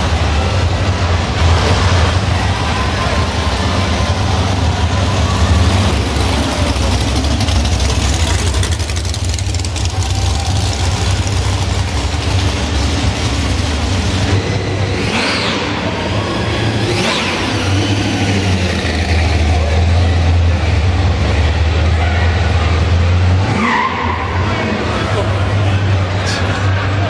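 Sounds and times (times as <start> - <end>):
muscle car engines rumbling: 0.0 - 27.0.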